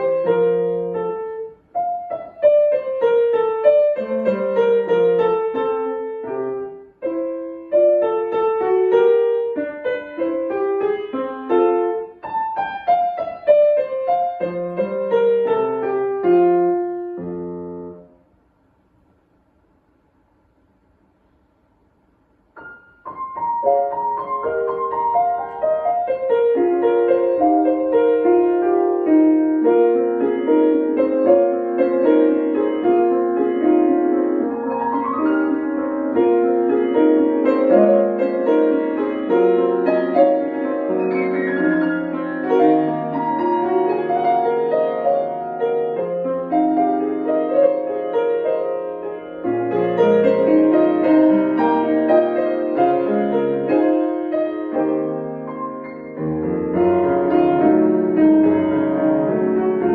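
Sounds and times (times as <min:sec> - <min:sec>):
solo piano melody: 0:00.0 - 0:59.9.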